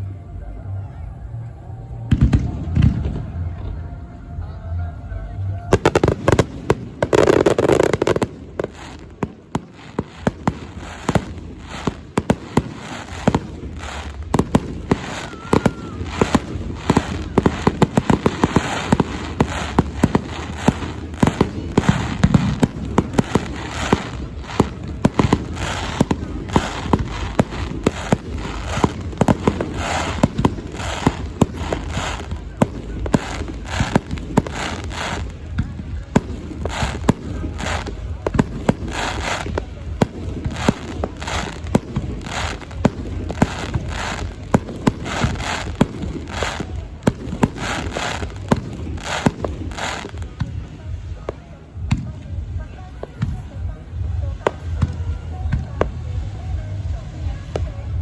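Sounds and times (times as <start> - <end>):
fireworks bangs and crackle: 0.0 - 58.0.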